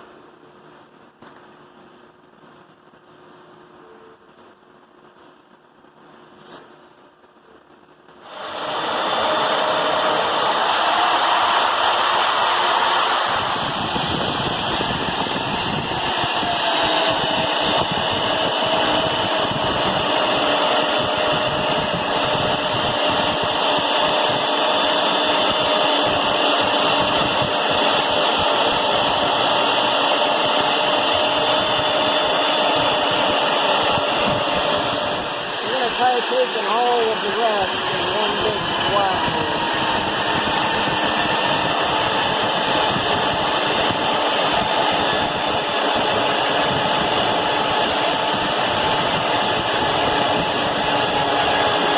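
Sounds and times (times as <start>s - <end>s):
steady whine: 0.0s - 51.9s
boring machine running: 8.2s - 51.9s.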